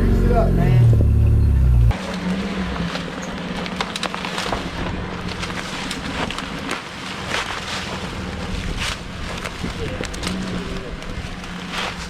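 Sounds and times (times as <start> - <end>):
off-road vehicle engine running: 0.0 - 12.0
rocks crunching under tyres: 0.0 - 12.0.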